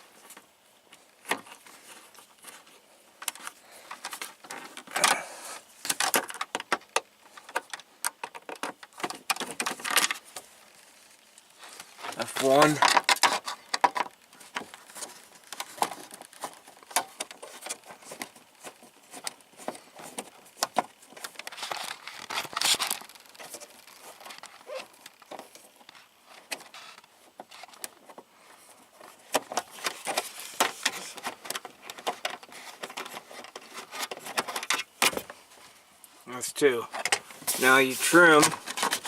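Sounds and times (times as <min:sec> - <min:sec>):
scuffling rattle: 0:00.0 - 0:39.0.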